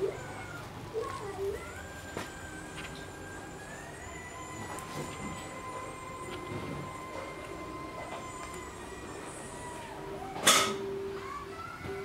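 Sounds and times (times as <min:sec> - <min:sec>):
wavering animal calls: 0:00.0 - 0:10.5.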